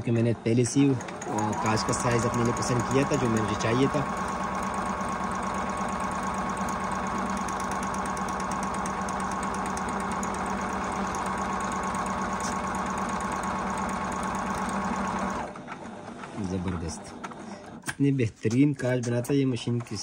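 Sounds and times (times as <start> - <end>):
sewing machine stitching: 0.0 - 17.9.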